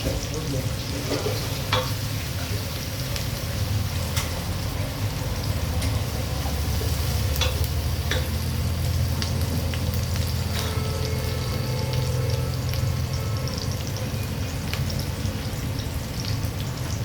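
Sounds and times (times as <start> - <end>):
food frying and sizzling: 0.0 - 17.0.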